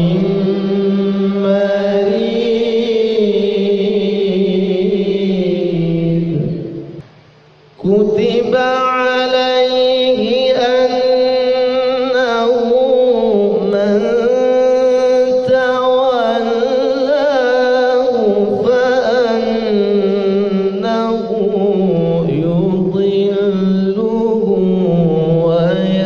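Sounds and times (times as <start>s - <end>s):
man reciting melodically: 0.0s - 7.0s, 7.7s - 26.0s.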